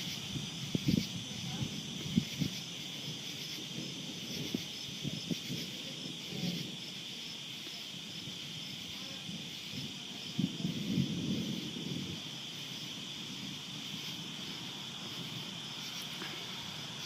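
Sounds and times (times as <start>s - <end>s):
crickets and katydids trilling: 0.0s - 17.0s.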